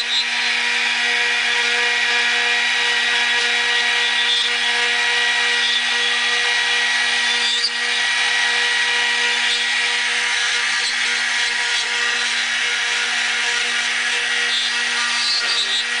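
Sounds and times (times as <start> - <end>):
cutter hissing in wood: 0.0 - 16.0
router spindle whine: 0.0 - 16.0.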